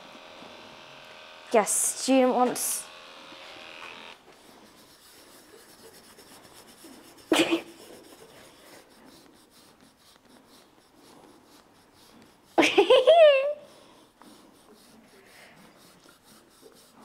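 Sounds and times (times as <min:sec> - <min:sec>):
brush scrubbing animal coat: 0:01.5 - 0:02.8, 0:04.2 - 0:17.0.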